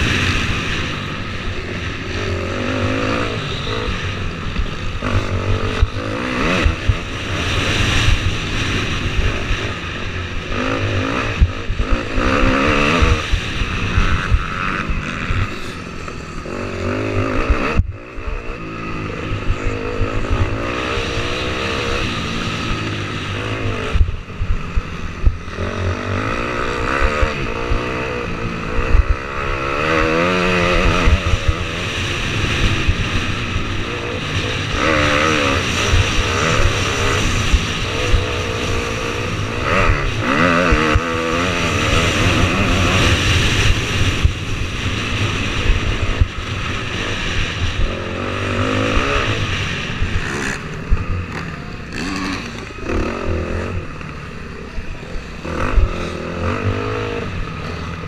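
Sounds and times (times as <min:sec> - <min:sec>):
dirt bike engine revving: 0:00.0 - 0:58.0
wind noise: 0:00.0 - 0:58.0.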